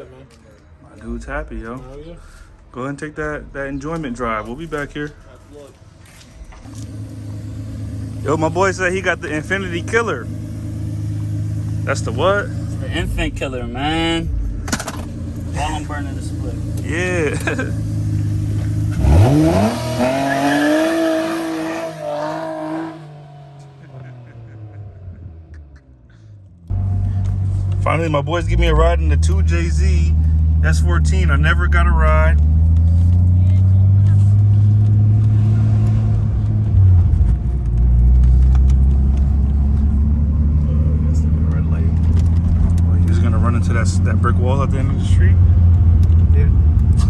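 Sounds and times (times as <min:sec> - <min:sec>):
car engine revving: 0:06.6 - 0:47.0.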